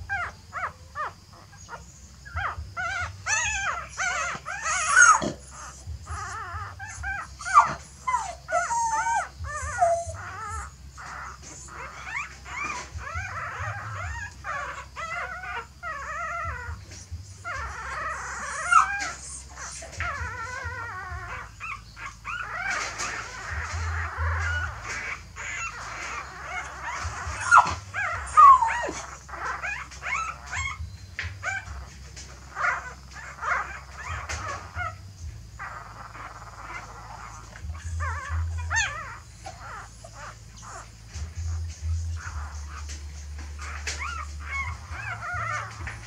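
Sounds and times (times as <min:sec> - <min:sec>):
puppies whimpering and squealing: 0:00.0 - 0:46.0
puppy yelps: 0:00.0 - 0:46.0.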